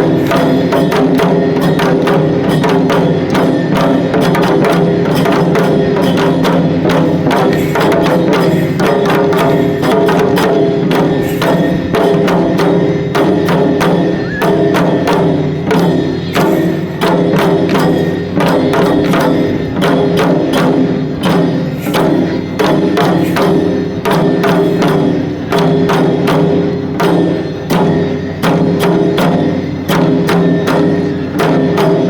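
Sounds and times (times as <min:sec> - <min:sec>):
fast drum strikes: 0:00.0 - 0:32.0.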